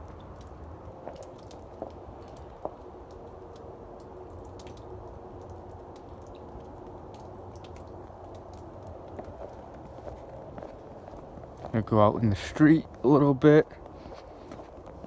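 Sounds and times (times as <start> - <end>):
soft ticks and crackles: 0.0 - 15.0
steady low rumble: 0.0 - 15.0.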